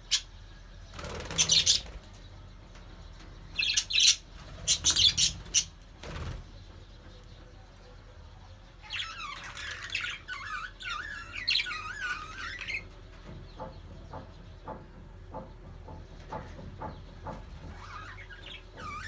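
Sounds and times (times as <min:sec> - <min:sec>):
budgerigars chirping and warbling: 0:00.0 - 0:14.8, 0:16.0 - 0:19.0.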